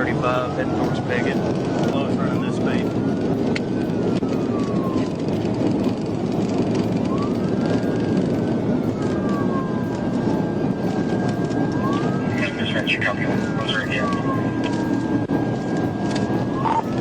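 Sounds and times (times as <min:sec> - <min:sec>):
car driving at high speed: 0:00.0 - 0:17.0
police siren wailing: 0:00.0 - 0:17.0.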